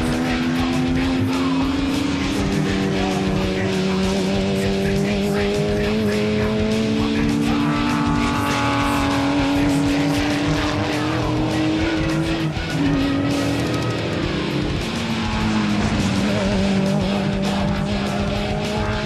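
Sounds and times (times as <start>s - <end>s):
background music with beat: 0.0s - 19.0s
racing car engines: 0.0s - 19.0s.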